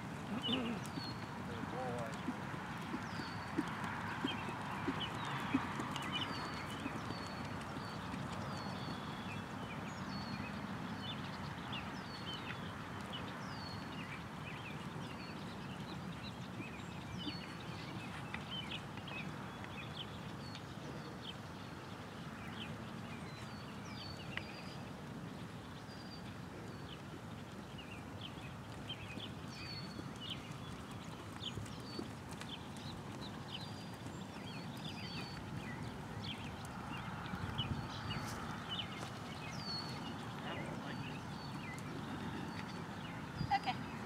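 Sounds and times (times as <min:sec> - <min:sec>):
horse trotting on sand: 0:00.0 - 0:44.0
small birds chirping: 0:00.0 - 0:44.0.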